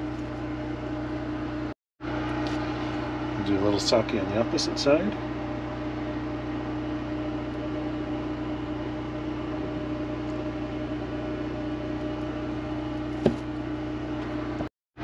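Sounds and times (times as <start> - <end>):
generator humming: 0.0 - 14.7.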